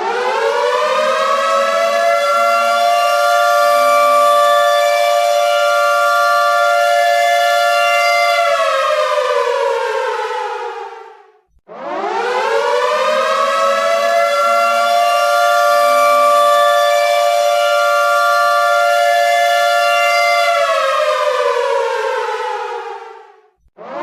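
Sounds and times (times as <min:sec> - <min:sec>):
air raid siren wailing: 0:00.0 - 0:11.2, 0:11.8 - 0:24.0.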